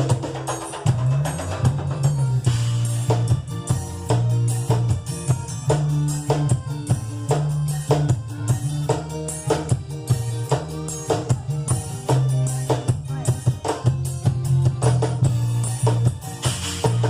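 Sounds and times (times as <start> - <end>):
drum kit beat: 0.0 - 17.0
tambourine-like percussion: 0.0 - 17.0
low sustained bass notes: 1.0 - 17.0.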